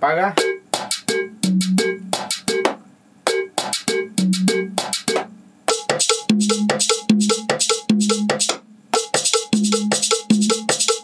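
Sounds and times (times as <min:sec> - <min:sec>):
pitched drum hits loop: 0:00.4 - 0:11.0.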